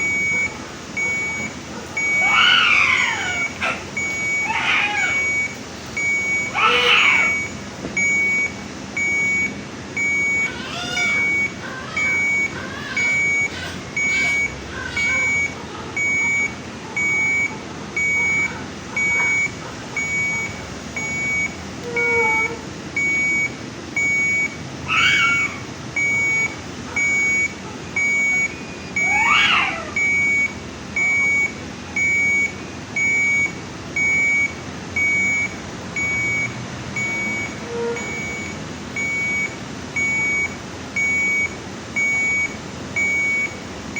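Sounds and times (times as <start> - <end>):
monitor alarm beeping: 0.0 - 43.9.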